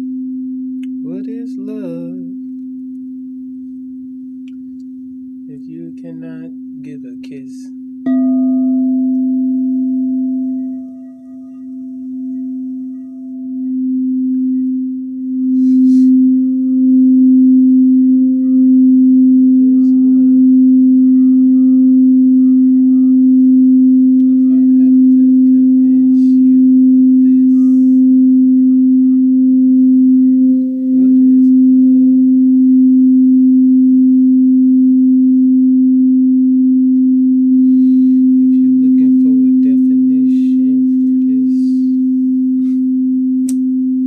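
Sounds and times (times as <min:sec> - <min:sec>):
singing bowl low tone: 0:00.0 - 0:44.0.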